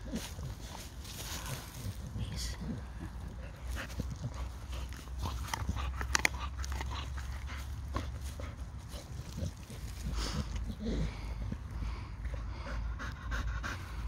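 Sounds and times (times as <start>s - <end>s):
dog chewing wooden stick: 0.0s - 11.7s.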